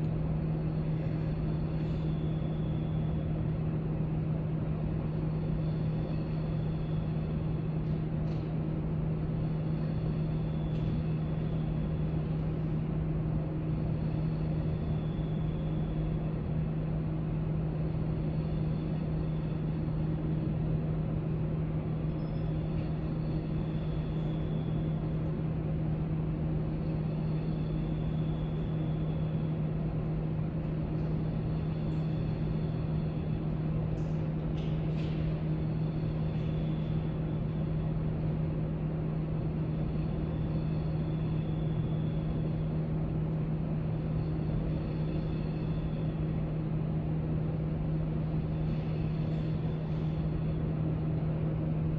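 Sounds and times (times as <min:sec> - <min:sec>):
low hum and rumble of room tone: 0:00.0 - 0:51.9.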